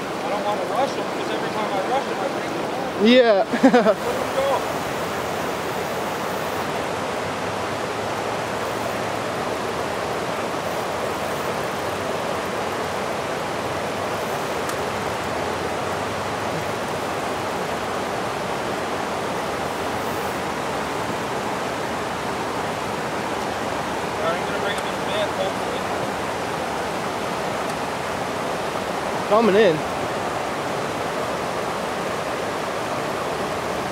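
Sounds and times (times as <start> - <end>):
river water rushing over rapids: 0.0 - 33.9.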